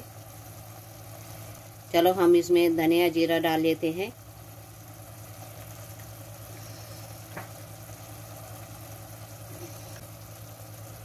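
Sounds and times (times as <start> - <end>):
low mechanical hum: 0.0 - 11.0
sauce simmering and sizzling: 0.0 - 11.0.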